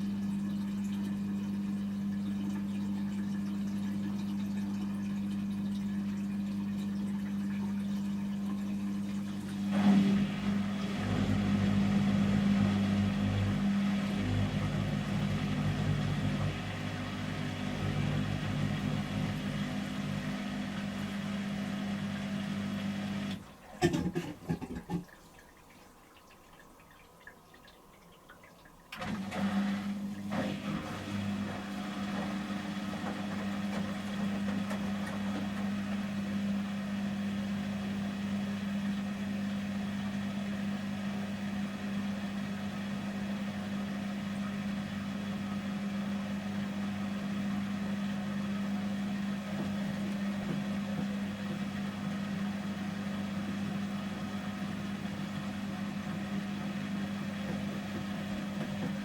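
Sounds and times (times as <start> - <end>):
washing machine spinning hum: 0.0 - 59.0.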